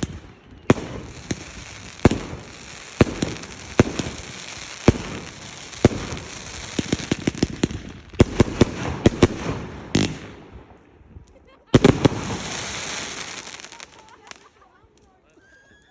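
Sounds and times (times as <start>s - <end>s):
fireworks banging and crackling: 0.0s - 15.3s.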